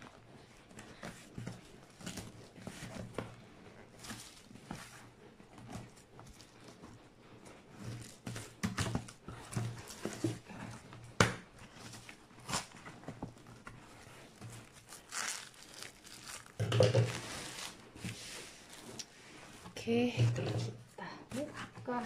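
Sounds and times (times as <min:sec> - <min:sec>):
bubble wrap crinkling: 0:00.0 - 0:06.9, 0:07.8 - 0:19.8.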